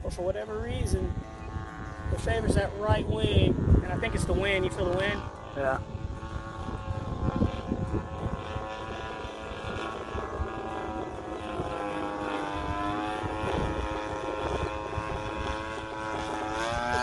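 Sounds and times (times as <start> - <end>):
model plane engine running: 0.0 - 17.0
wind rumbling on microphone: 0.0 - 17.0.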